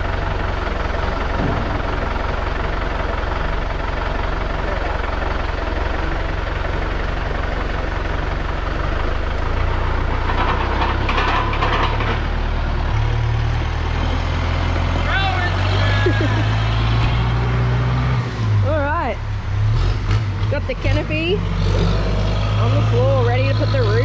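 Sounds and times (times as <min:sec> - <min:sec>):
tractor diesel engine clattering: 0:00.0 - 0:24.0.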